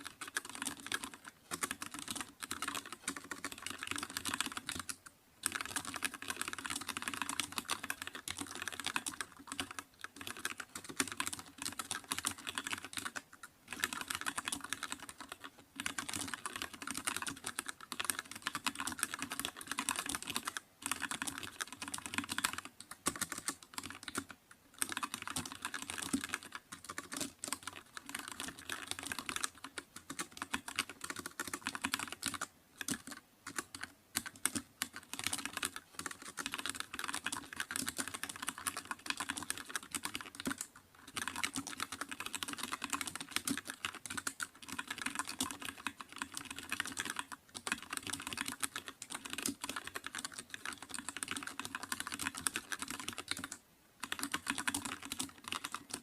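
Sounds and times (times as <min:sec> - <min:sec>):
keyboard typing clicks: 0:00.0 - 0:56.0.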